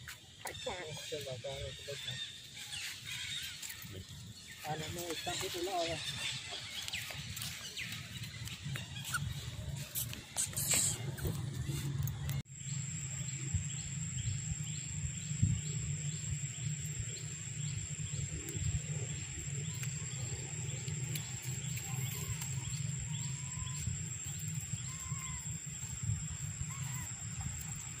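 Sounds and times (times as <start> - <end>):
high-pitched whine: 0.0 - 28.0.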